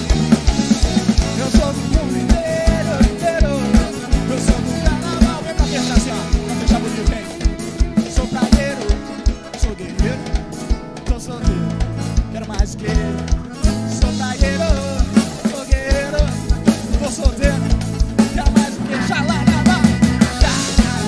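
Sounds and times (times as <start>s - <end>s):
accordion: 0.0s - 21.0s
acoustic guitar: 0.0s - 21.0s
bass: 0.0s - 21.0s
drum kit fast kick beat: 0.0s - 21.0s.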